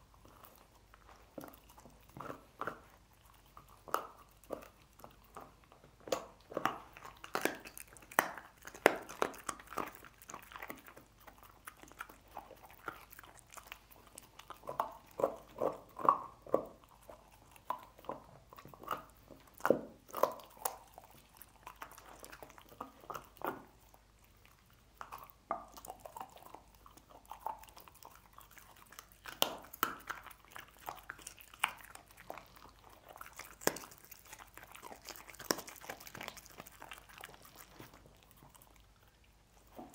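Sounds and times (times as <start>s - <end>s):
dog crunching bones: 0.0s - 39.9s.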